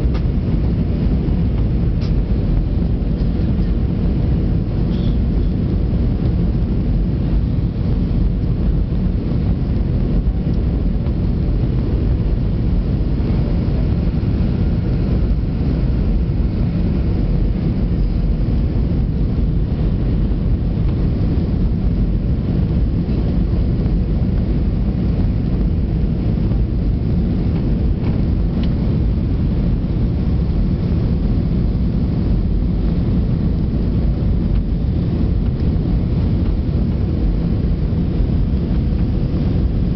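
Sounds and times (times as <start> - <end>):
aircraft cabin rumble: 0.0 - 39.9
faint steady hum: 0.0 - 39.9.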